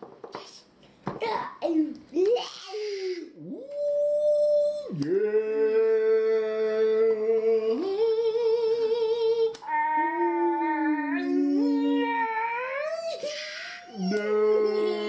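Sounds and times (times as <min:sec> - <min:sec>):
two voices humming: 0:02.8 - 0:15.0.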